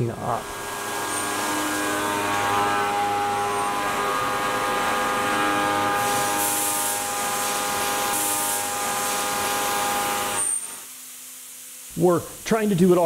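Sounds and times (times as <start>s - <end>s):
milling cutter whine: 0.0s - 10.8s.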